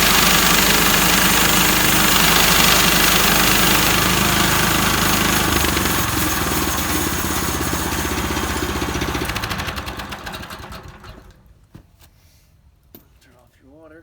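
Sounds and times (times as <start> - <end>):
gas engine running and spinning down: 0.0 - 11.4.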